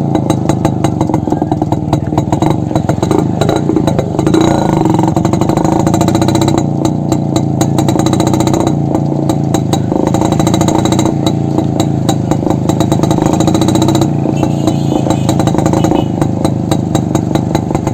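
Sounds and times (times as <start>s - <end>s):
motorcycle engine without muffler: 0.0s - 17.9s.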